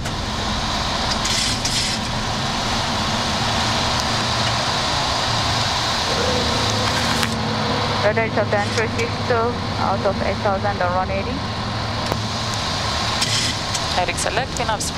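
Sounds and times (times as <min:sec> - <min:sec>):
jet engines at takeoff thrust: 0:00.0 - 0:14.9.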